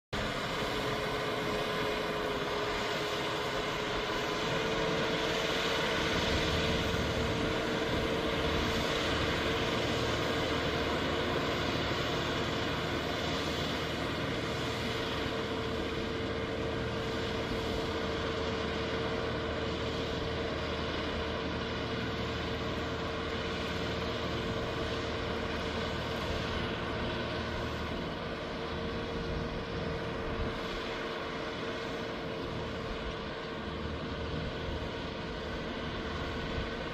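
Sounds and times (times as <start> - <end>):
steady whining tone: 0.2 - 36.9
tractor engine running: 0.2 - 36.9.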